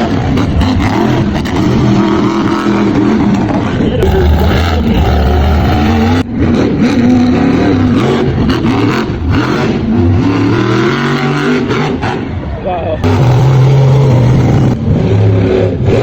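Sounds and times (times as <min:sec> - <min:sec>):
monster truck engines revving: 0:00.0 - 0:16.0.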